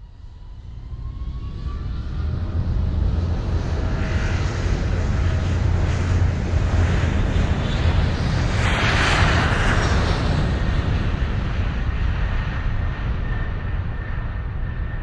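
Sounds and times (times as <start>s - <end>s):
deep jet-like rumble: 0.0s - 15.0s.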